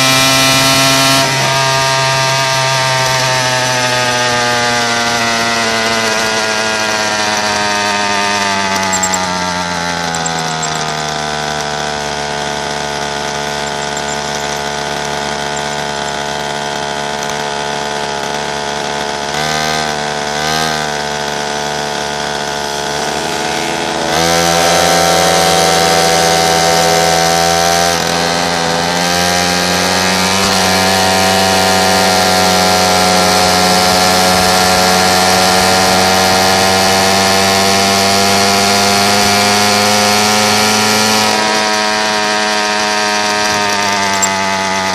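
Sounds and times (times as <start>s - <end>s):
small motorbike engine running: 0.0s - 44.9s.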